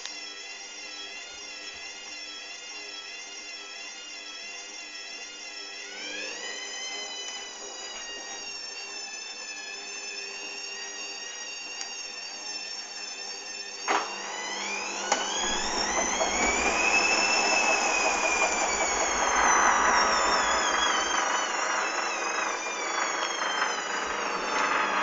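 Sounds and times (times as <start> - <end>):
washing machine motor whining: 0.0 - 25.0.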